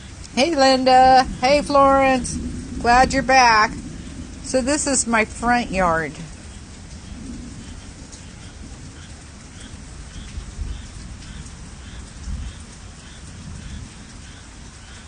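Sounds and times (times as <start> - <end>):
low rumbles: 0.0 - 12.5
steady rain falling: 0.0 - 15.0.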